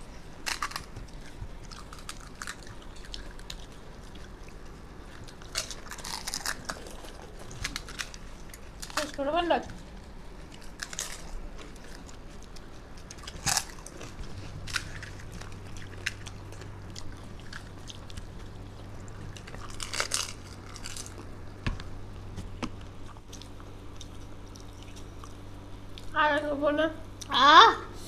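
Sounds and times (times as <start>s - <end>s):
crunching fried puris: 0.0s - 26.2s
low steady hum: 0.0s - 28.0s.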